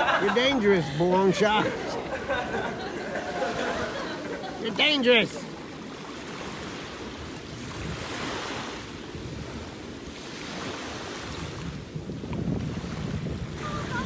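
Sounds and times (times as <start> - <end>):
wind buffeting microphone: 0.0 - 4.6, 5.5 - 14.0
ocean waves washing in: 0.0 - 12.0.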